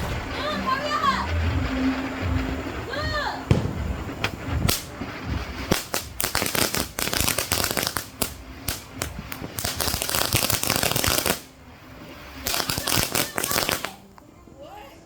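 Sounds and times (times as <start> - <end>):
firework crackling and popping: 0.0 - 15.0.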